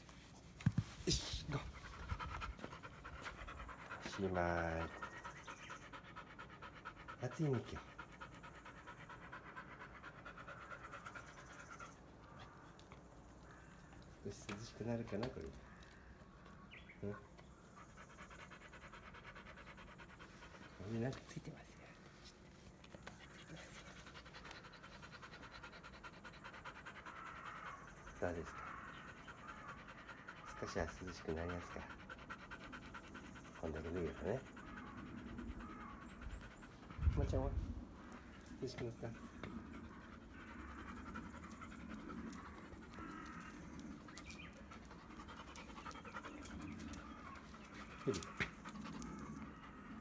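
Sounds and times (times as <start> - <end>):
dog panting quickly: 0.7 - 16.0, 17.1 - 50.0.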